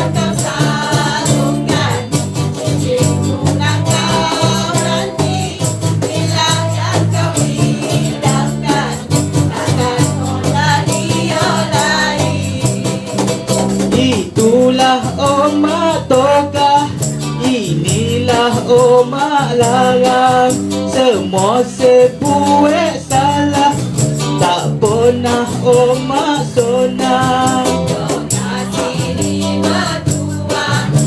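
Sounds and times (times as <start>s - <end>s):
bass line: 0.0s - 31.0s
group singing: 0.0s - 31.0s
percussion rhythm: 0.0s - 31.0s.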